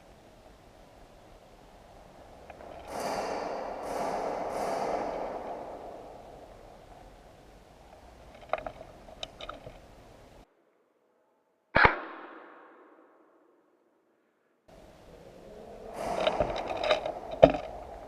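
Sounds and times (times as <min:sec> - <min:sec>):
faint outdoor noise: 0:00.0 - 0:11.8, 0:13.2 - 0:18.0.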